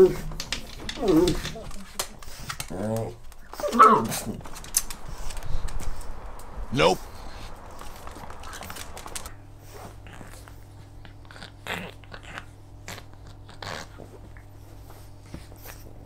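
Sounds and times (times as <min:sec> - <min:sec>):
dog chewing and crunching: 0:00.0 - 0:16.0.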